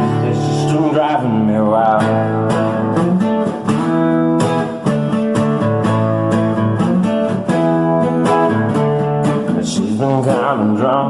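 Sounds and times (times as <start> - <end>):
guitar strummed: 0.0 - 11.0.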